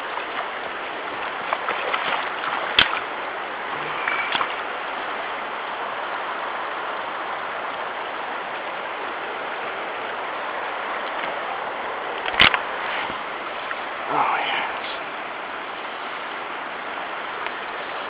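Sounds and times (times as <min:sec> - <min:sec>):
rain: 0:00.0 - 0:18.0
stream water rushing: 0:00.0 - 0:18.0.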